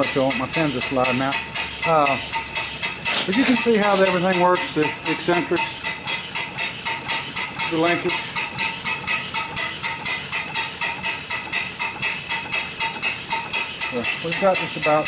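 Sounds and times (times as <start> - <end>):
even metallic clicking of pump: 0.0 - 15.0.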